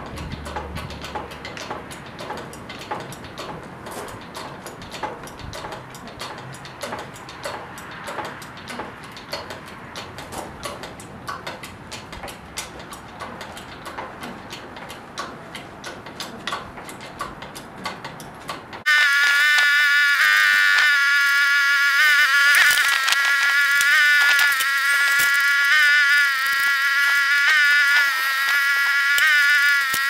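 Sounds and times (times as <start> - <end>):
hydraulic hoist pump clicking: 0.0 - 30.0.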